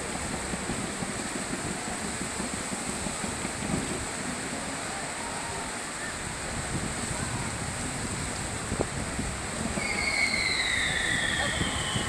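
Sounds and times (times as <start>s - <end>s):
murmur of large crowd: 0.0s - 12.0s
wind noise on microphone: 0.0s - 12.0s.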